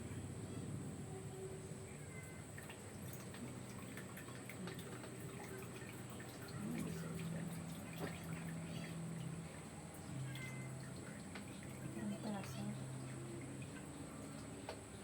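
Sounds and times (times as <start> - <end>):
low steady hum: 0.0 - 15.0
liquid dripping and trickling: 2.0 - 15.0.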